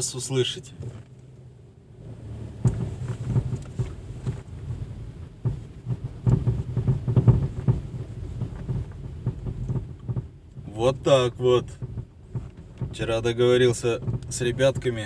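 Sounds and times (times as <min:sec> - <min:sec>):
car rumbling over uneven road: 0:00.0 - 0:15.0
suspension knocking: 0:02.5 - 0:15.0.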